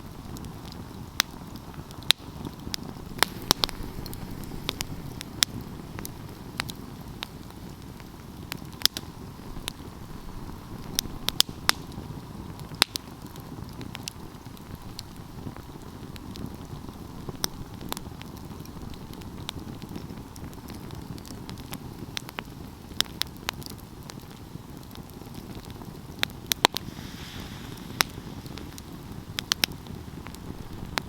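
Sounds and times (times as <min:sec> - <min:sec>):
low rush of flames: 0:00.0 - 0:31.0
wood crackling and popping: 0:00.0 - 0:31.0.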